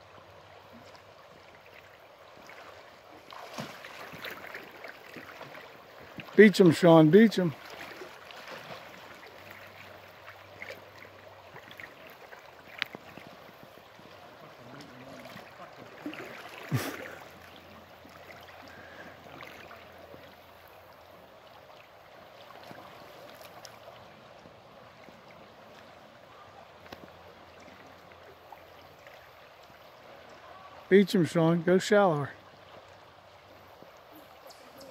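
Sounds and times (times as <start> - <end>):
creek water over gravel: 0.0 - 34.9.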